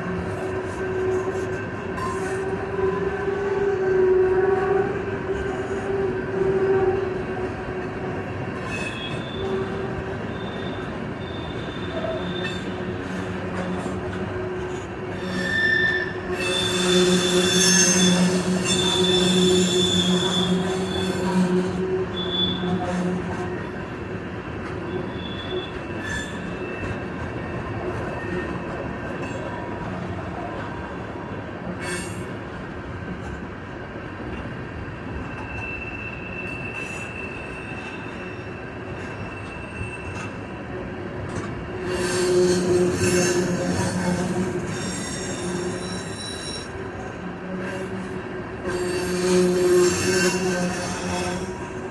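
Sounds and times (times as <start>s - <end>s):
train wheels screeching on rails: 0.0s - 33.5s, 34.3s - 51.9s
train rumble: 0.0s - 51.9s.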